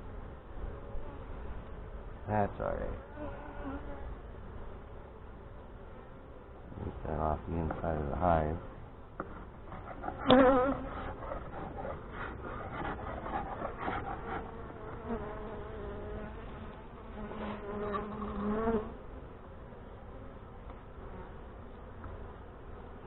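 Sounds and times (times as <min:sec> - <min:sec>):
honey bees buzzing: 0:00.4 - 0:23.0
bee flying past: 0:00.6 - 0:23.0.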